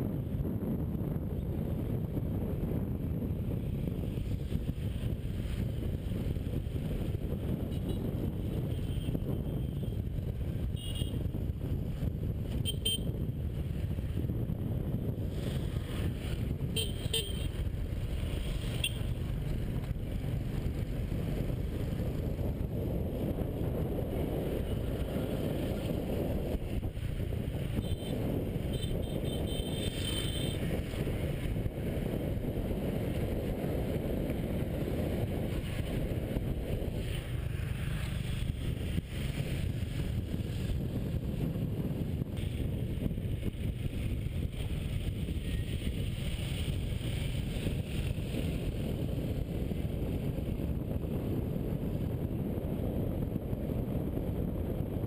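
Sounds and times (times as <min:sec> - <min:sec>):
wind on microphone: 0:00.0 - 0:55.0.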